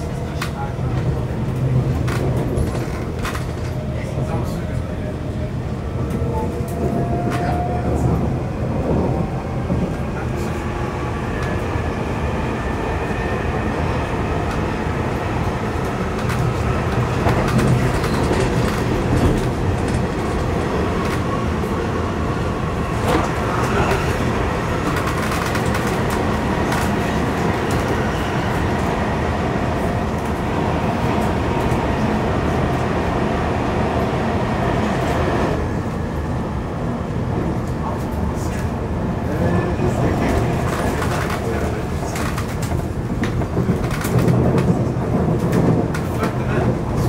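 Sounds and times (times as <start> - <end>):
train wheels rumbling: 0.0 - 47.0.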